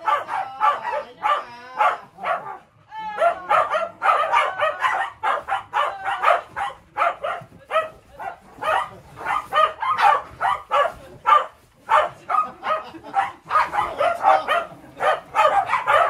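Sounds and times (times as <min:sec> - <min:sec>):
dogs yipping: 0:00.0 - 0:02.6, 0:03.2 - 0:16.0
dogs barking rapidly: 0:00.0 - 0:16.0.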